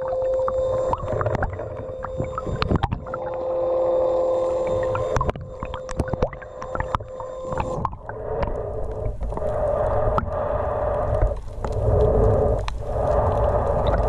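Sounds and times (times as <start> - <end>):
crackling clicks: 0.0 - 3.6, 4.5 - 14.0
muffled underwater water noise: 0.0 - 14.0
underwater motor whining: 0.0 - 14.0.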